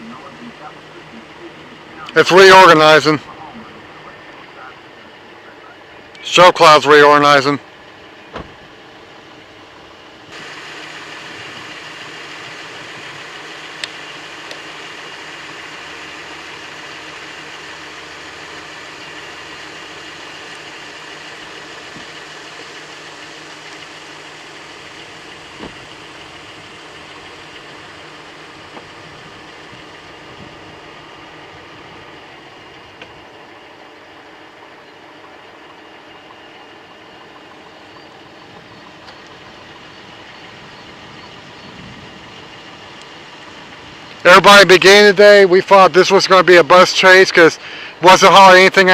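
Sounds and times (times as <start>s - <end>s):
car engine running: 0.0s - 48.9s.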